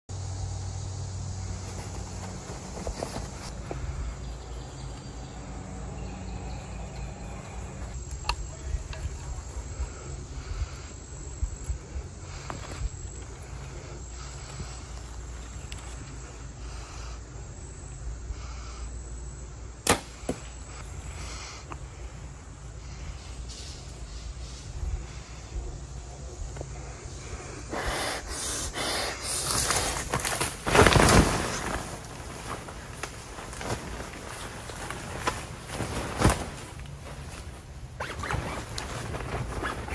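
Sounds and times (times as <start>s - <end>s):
insects calling: 0.1s - 39.9s.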